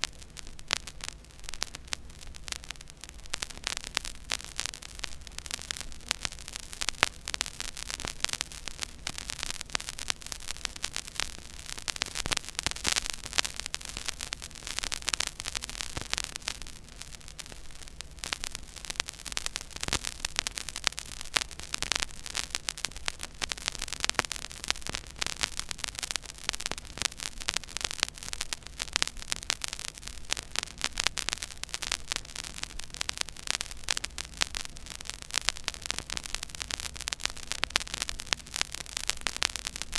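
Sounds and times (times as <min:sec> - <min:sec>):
vinyl record crackle: 0:00.0 - 0:39.9.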